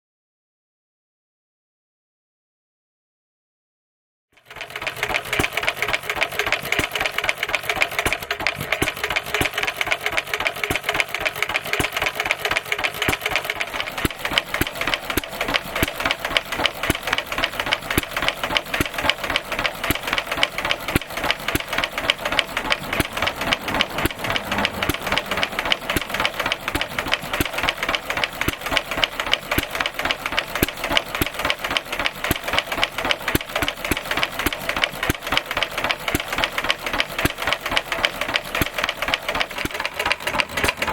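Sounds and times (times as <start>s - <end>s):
stationary engine running: 4.4s - 40.9s.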